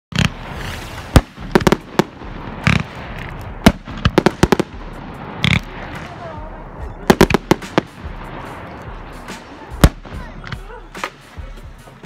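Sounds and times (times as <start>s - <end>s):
fireworks exploding: 0.1s - 11.4s.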